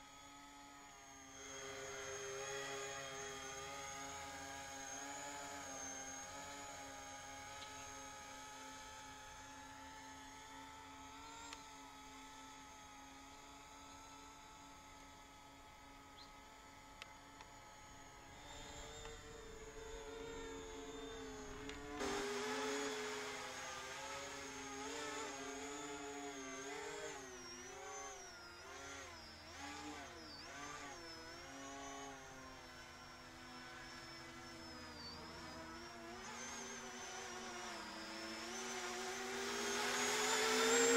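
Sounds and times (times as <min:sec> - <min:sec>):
electric motors and propellers whirring: 0:00.0 - 0:40.9.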